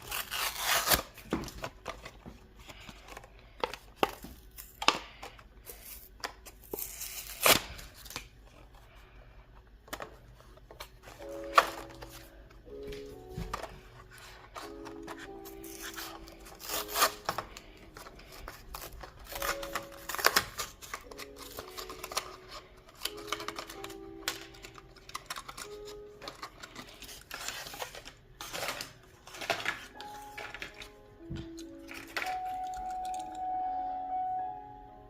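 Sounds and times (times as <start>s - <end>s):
packaging crinkling and clicking: 0.0s - 33.4s
soft background music: 0.0s - 35.0s.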